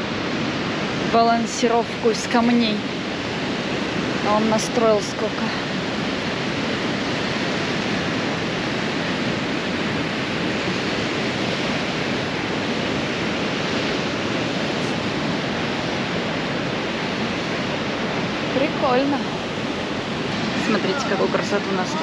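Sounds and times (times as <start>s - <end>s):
ocean surf washing on shore: 0.0s - 22.0s.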